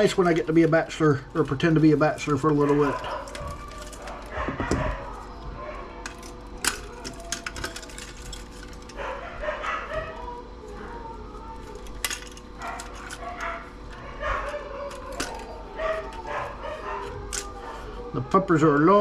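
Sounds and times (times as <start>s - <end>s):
dogs barking and whining: 0.0s - 19.0s.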